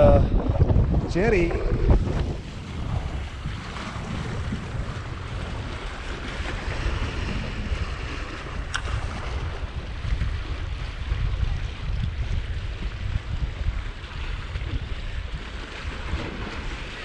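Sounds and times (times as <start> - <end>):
wind rumbling on microphone: 0.0 - 17.0
waves splashing against rocks: 0.4 - 17.0.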